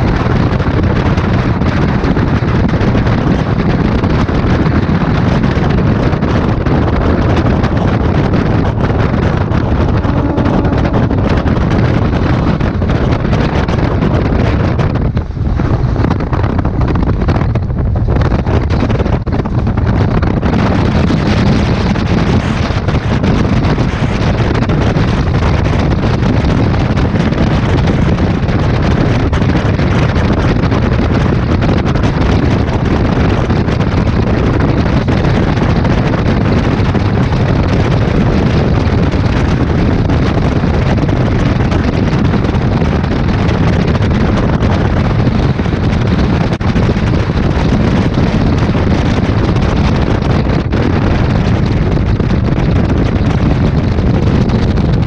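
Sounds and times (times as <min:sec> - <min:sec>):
train running at speed: 0:00.0 - 0:55.0
wind buffeting microphone: 0:00.0 - 0:55.0.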